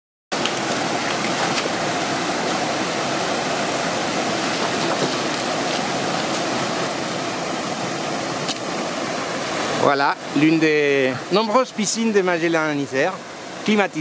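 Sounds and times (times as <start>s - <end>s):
waterfall pouring into pool: 0.4s - 14.0s.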